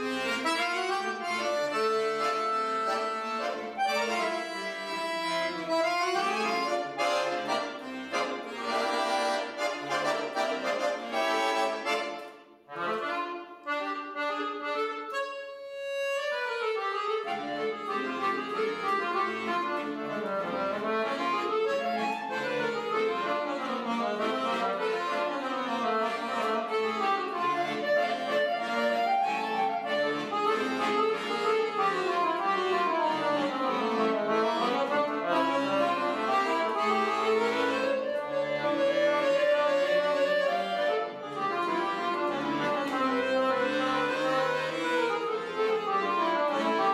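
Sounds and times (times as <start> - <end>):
accordion bass notes: 0.0 - 46.9
piano accordion runs: 0.0 - 46.9.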